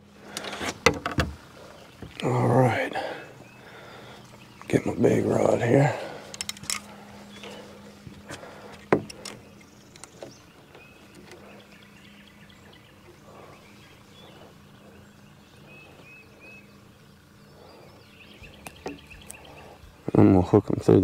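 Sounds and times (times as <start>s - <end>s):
steady low hum: 0.0s - 21.0s
faint bird chirps: 1.4s - 21.0s.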